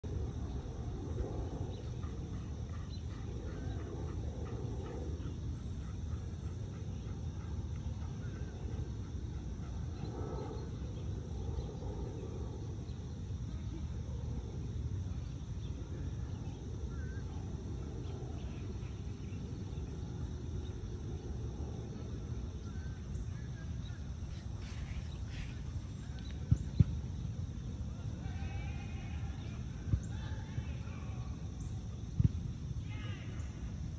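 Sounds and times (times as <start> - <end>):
faint high insect drone: 0.0 - 33.9.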